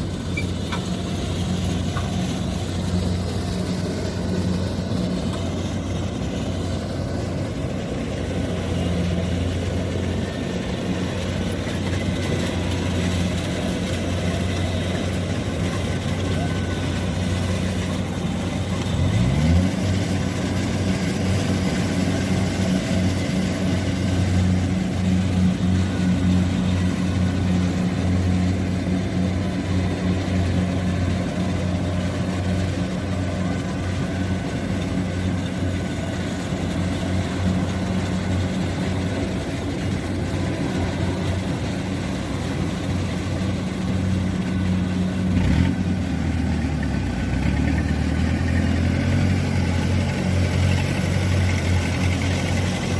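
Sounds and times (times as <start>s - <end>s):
combine harvester engine revving: 0.0s - 52.9s.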